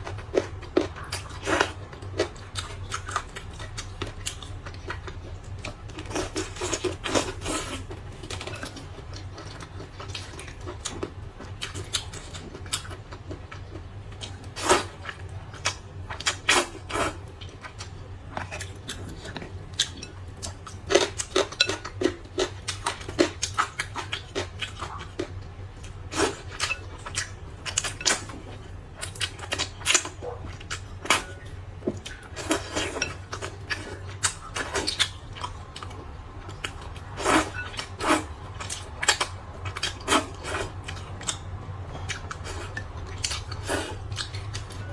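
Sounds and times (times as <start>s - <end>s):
chewing and slurping noodles: 0.0s - 44.9s.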